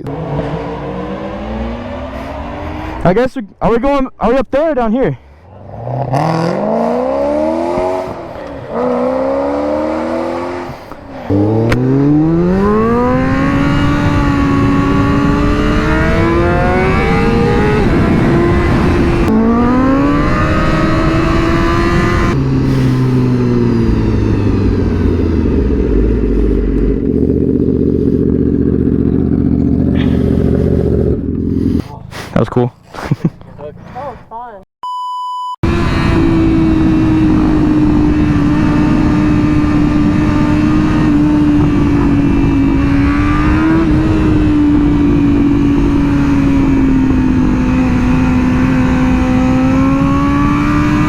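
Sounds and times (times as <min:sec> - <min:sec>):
motorcycle engine accelerating: 0:00.0 - 0:03.1, 0:05.4 - 0:34.0, 0:35.6 - 0:51.0.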